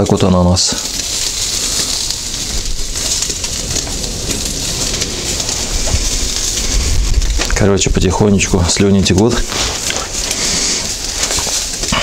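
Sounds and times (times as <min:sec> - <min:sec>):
skewers sizzling over charcoal: 0:00.0 - 0:12.0.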